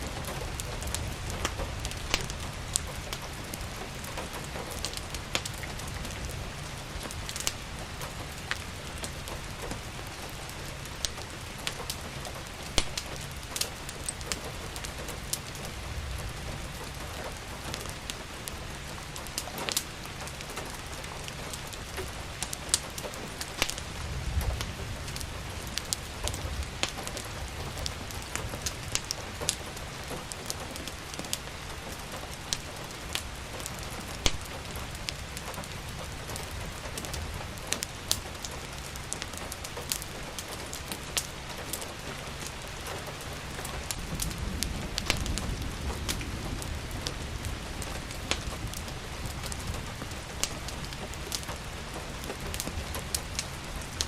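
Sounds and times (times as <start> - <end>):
steady rain falling: 0.0 - 54.0
wood fire crackling and popping: 0.0 - 54.0.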